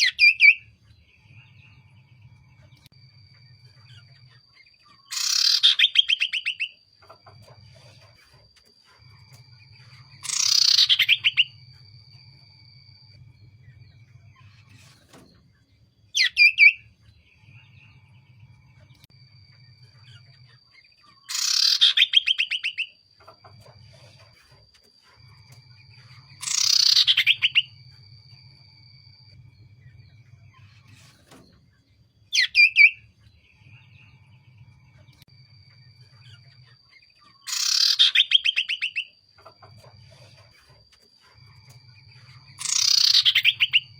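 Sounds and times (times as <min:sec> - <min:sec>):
bird calling with pulsed trill: 0:00.0 - 0:14.9, 0:16.0 - 0:31.1, 0:32.2 - 0:43.9.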